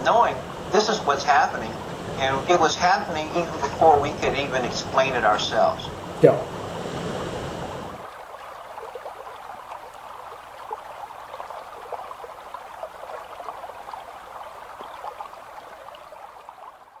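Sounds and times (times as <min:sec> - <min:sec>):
stream running over rocks: 0:00.0 - 0:05.8, 0:07.8 - 0:17.0.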